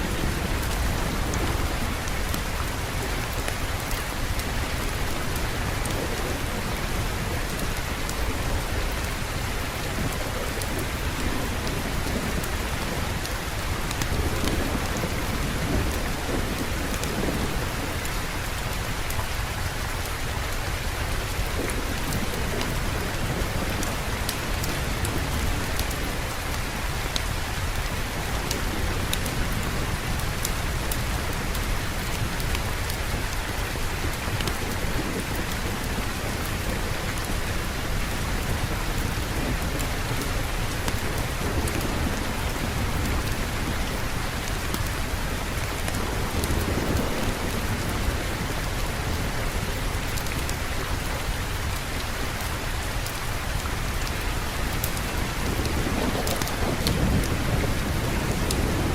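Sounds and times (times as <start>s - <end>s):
raindrop ticks: 0.0s - 58.9s
steady rain hissing: 0.0s - 58.9s.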